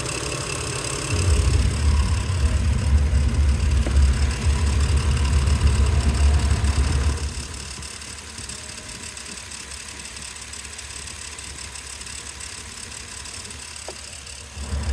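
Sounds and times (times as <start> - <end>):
car engine idling: 0.0 - 14.9
engine chattering noise: 0.0 - 14.9.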